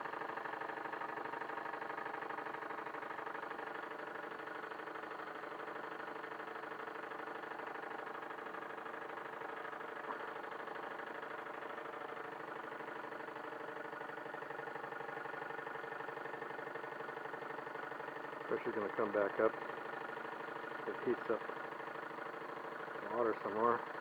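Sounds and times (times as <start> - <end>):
model steam engine running: 0.1 - 24.0.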